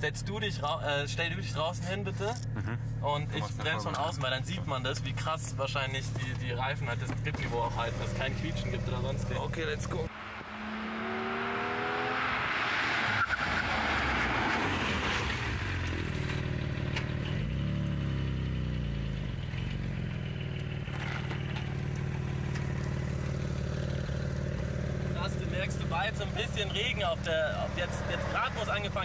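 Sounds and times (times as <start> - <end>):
car engine accelerating: 0.0 - 29.0
tyre and road noise: 0.0 - 29.0.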